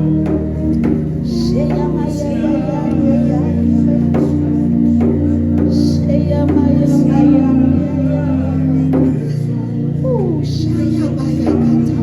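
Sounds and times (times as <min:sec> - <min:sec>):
worship band music: 0:00.0 - 0:12.0.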